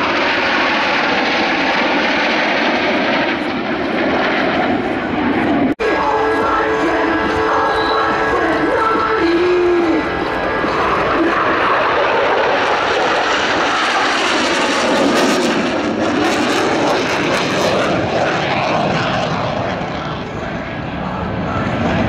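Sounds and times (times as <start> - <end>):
jets flying overhead: 0.0 - 22.0.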